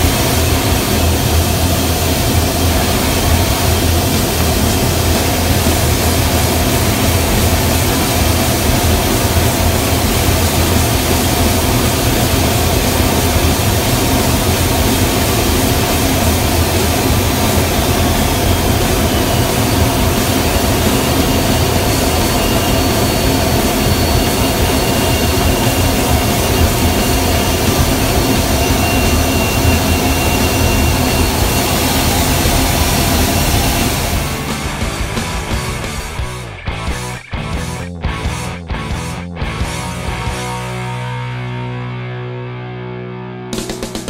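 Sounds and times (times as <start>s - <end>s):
faint high whine: 0.0s - 36.1s
jet engines droning: 0.0s - 37.2s.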